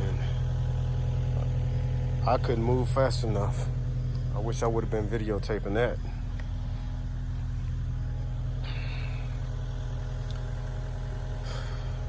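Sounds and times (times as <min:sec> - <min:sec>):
excavator engine idling: 0:00.0 - 0:12.0.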